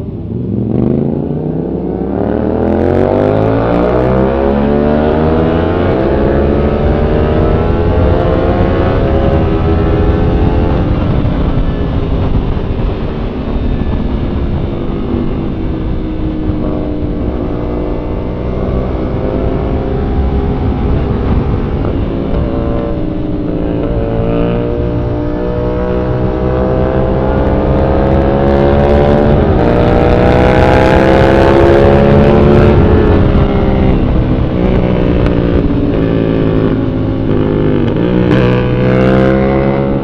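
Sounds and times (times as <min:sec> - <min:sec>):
motorcycle engine accelerating: 0:00.0 - 0:40.0
wind noise on microphone: 0:00.0 - 0:40.0.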